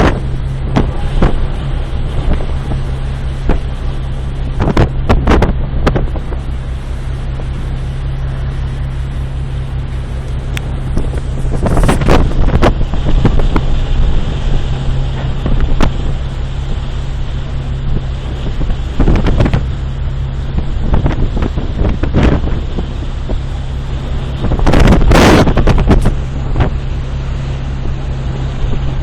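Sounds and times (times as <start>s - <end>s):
ship engine drone: 0.0s - 29.0s
waves rushing: 0.0s - 29.0s
wind: 0.0s - 29.0s.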